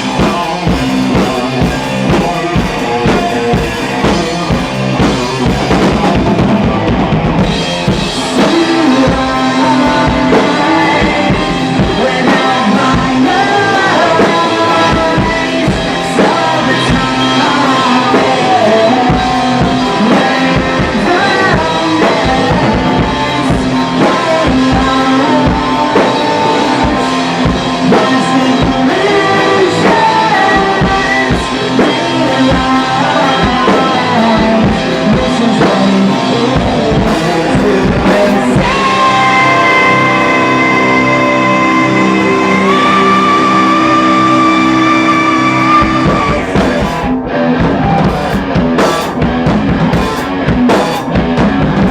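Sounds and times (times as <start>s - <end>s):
rapid bass drum strikes: 0.0s - 44.2s, 45.1s - 51.9s
heavy metal band playing: 0.0s - 51.9s.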